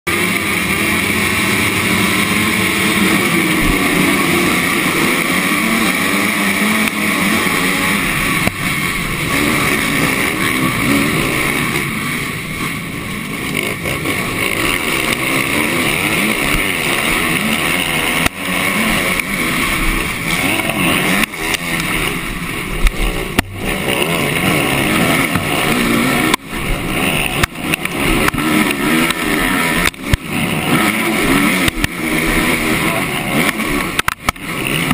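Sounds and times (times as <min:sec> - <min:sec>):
dirt bikes racing: 0:00.1 - 0:34.9
motocross bike engine revving: 0:00.1 - 0:34.9.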